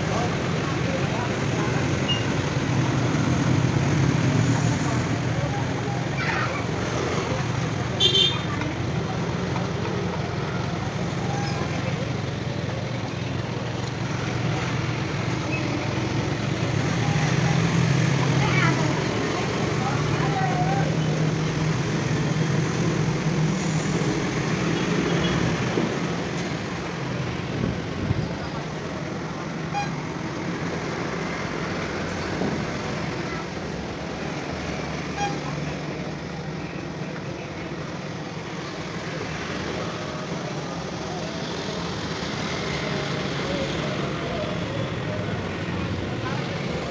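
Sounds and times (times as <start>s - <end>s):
motorbike engines running: 0.0s - 46.9s
road noise: 0.0s - 46.9s.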